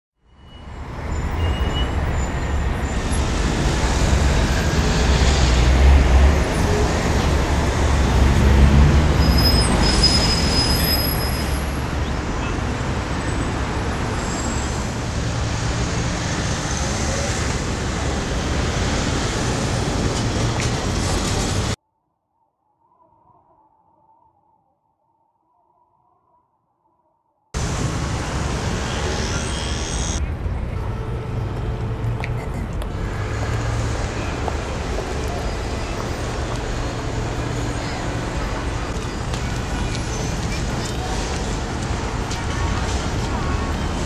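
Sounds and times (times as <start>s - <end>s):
road traffic rumble: 0.6s - 21.8s, 27.6s - 44.0s.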